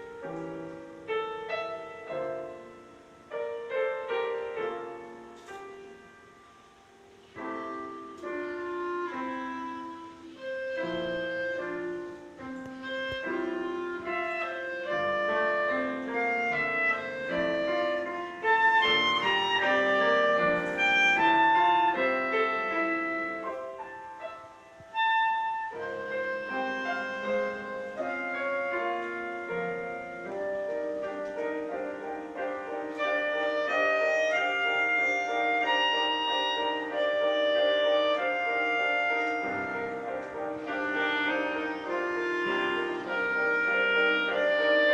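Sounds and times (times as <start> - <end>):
instrumental duo music: 0.0 - 44.9.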